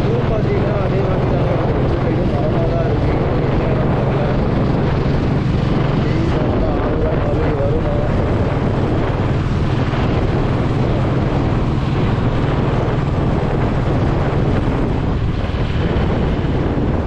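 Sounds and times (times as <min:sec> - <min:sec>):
motorcycle engine running: 0:00.0 - 0:17.0
wind noise on microphone: 0:00.0 - 0:17.0.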